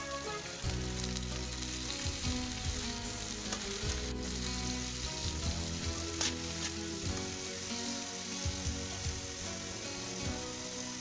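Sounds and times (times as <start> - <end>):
background music with held notes: 0.0 - 11.0
squid sizzling in hot oil: 0.0 - 11.0.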